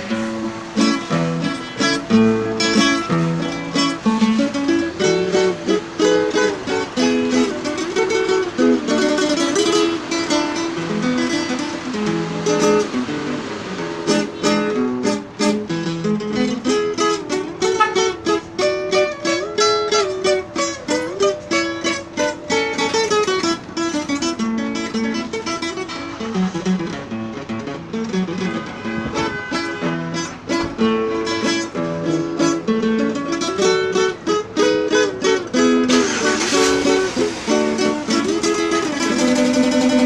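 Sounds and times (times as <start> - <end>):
classical guitar playing: 0.0 - 40.0.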